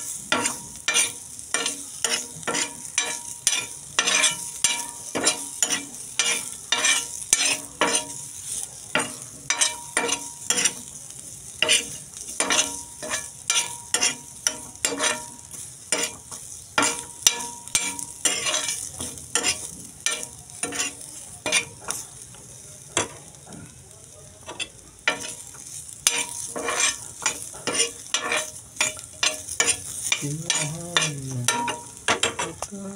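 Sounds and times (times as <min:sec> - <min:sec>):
metal spatula scraping a wok: 0:00.0 - 0:22.2, 0:24.5 - 0:32.6
vegetables sizzling in a wok: 0:00.0 - 0:32.9.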